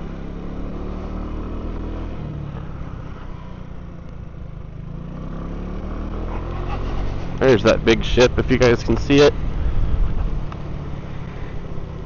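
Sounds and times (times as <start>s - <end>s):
road and wind hiss: 0.0s - 12.0s
scooter engine running: 0.0s - 12.0s.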